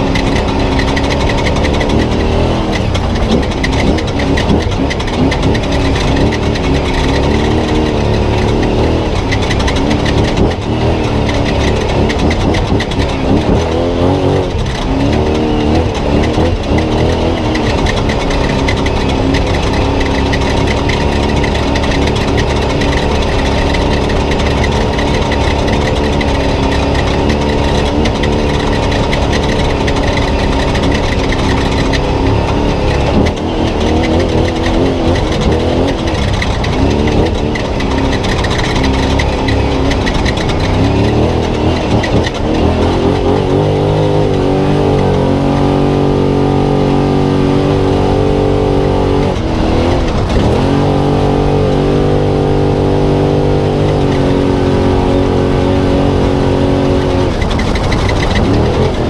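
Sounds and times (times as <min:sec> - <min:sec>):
road and wind noise: 0:00.0 - 0:59.0
truck engine running hard: 0:00.0 - 0:59.0.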